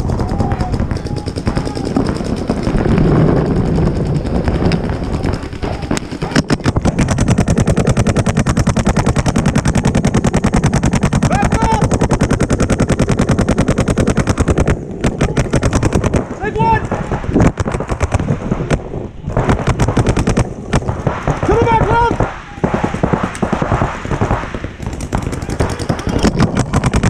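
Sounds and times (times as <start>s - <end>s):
paintball marker shots: 4.7s - 27.0s.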